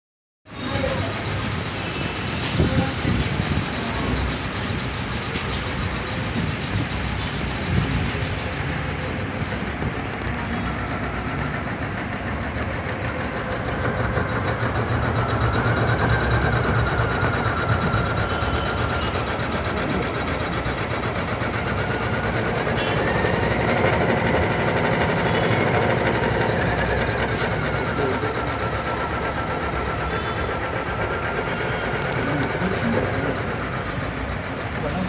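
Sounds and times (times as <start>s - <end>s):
embroidery machine stitching: 0.5s - 35.0s.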